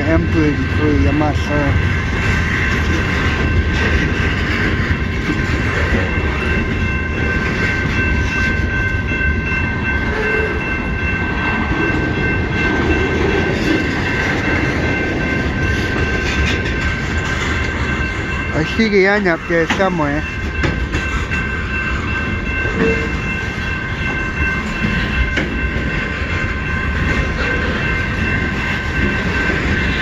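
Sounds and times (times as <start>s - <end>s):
train cars rumbling past: 0.0s - 30.0s.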